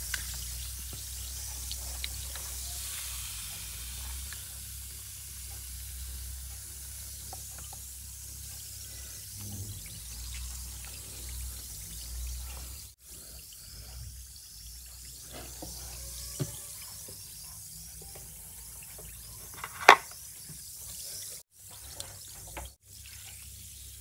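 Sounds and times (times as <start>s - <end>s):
water drips: 0.0s - 2.8s, 3.5s - 24.0s.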